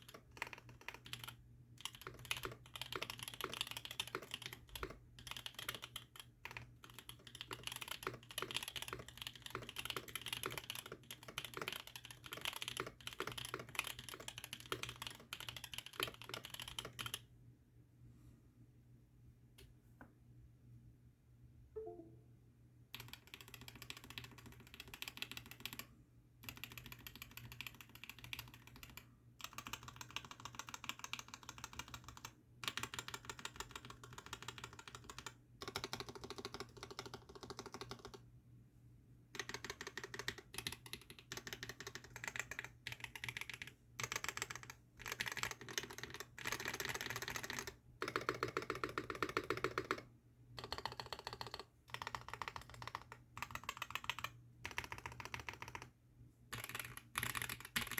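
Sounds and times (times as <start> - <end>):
fast mechanical keyboard typing: 0.0 - 17.2, 23.0 - 38.2, 39.3 - 57.9.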